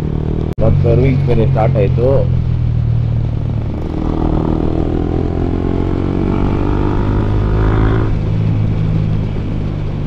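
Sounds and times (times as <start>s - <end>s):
motorcycle engine accelerating: 0.0s - 10.0s
steady low rumble: 0.0s - 10.0s.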